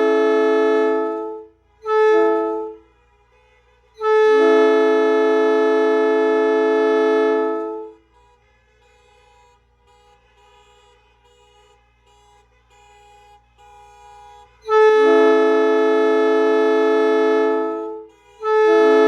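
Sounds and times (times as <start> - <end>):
train horn blasts: 0.0 - 19.0.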